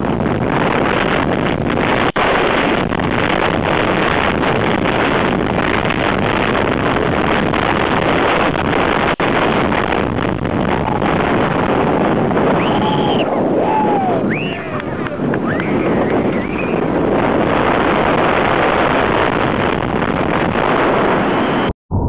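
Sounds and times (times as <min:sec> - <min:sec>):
roller coaster rumbling: 0:00.0 - 0:22.0
wind buffeting microphone: 0:00.0 - 0:22.0.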